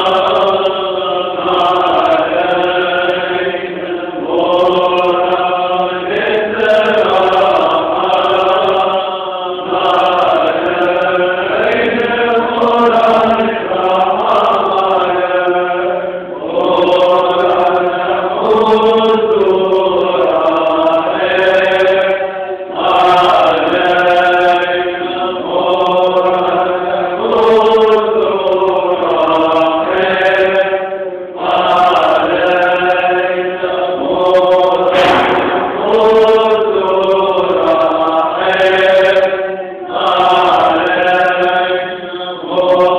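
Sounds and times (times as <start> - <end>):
voices chanting prayer together: 0.0 - 42.9.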